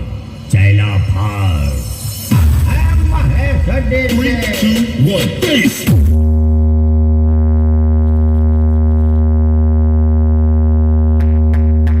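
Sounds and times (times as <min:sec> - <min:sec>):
sustained sub-bass tone: 0:00.0 - 0:04.8, 0:05.9 - 0:12.0.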